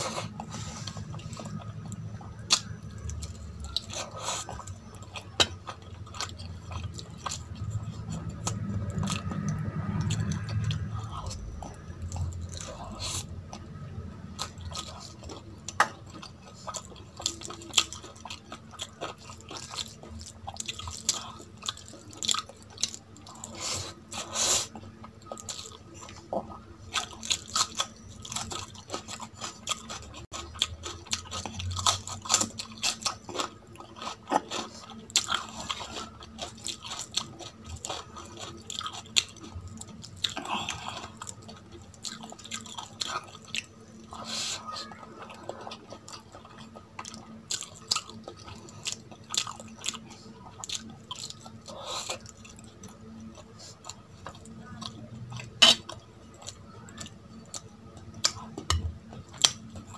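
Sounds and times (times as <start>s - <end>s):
close chewing and crunching: 0.0s - 59.9s.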